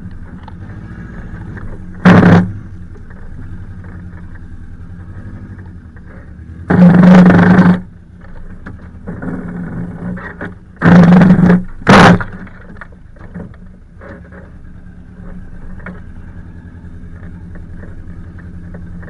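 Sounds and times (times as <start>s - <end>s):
car engine running at low speed: 0.0s - 19.0s.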